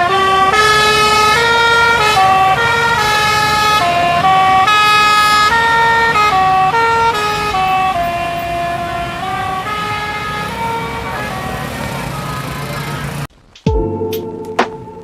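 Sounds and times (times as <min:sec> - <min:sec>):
bus engine rumbling: 0:00.0 - 0:13.6.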